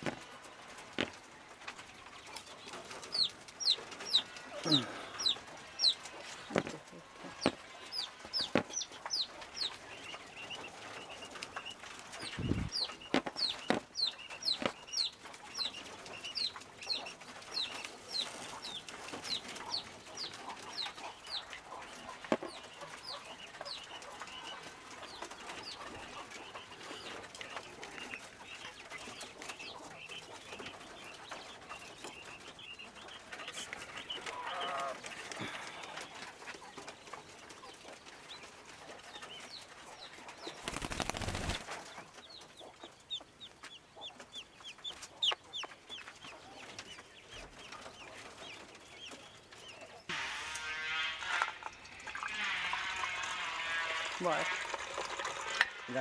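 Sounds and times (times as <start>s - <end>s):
quail chirping: 2.1s - 50.1s.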